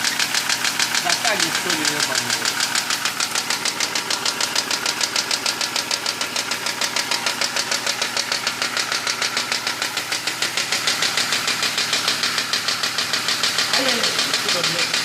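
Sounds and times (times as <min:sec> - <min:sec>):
car engine idling: 0:00.0 - 0:15.0
engine knocking: 0:00.0 - 0:15.0.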